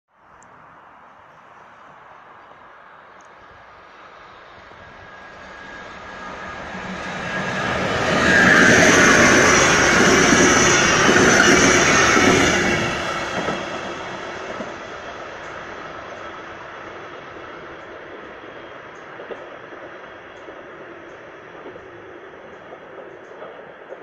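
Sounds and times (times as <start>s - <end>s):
passenger train passing: 0.4s - 24.0s.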